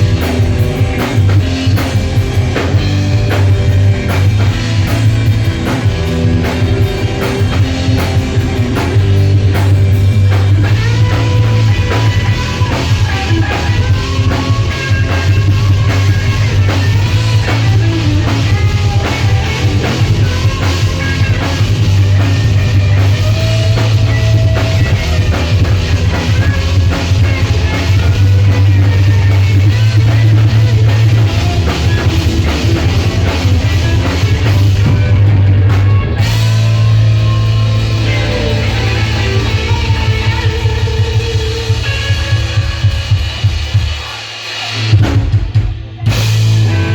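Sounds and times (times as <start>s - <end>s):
heavy bass line: 0.0s - 43.9s, 44.7s - 46.9s
drum kit: 0.0s - 46.9s
electric guitar: 0.0s - 46.9s.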